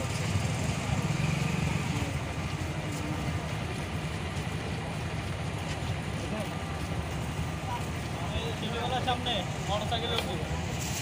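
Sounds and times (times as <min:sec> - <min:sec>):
street traffic rumble: 0:00.0 - 0:11.0
vehicle engine running: 0:00.0 - 0:11.0.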